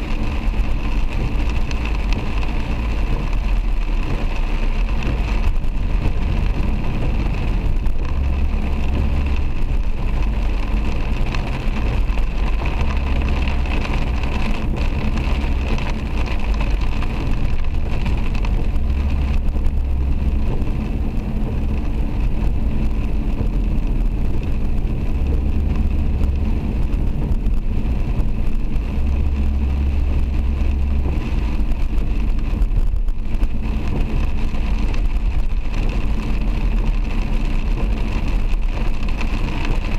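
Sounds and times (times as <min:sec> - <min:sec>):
low rumble: 0:00.0 - 0:39.9
rain on car: 0:00.0 - 0:39.9
tyres on wet road: 0:00.0 - 0:39.9.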